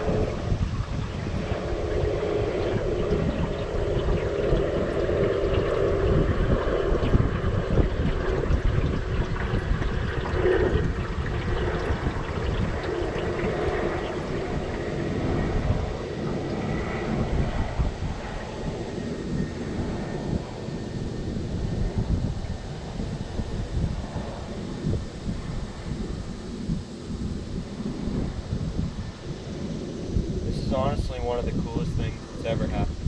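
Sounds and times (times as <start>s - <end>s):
electric boat motor humming: 0.0s - 33.0s
water noise: 0.0s - 33.0s
wind buffeting microphone: 0.0s - 33.0s.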